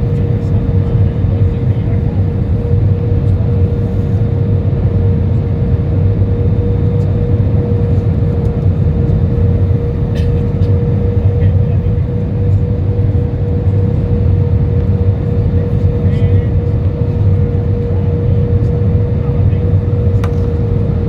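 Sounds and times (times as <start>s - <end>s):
airplane cabin engine rumble: 0.0s - 21.0s
constant whine: 0.0s - 21.0s.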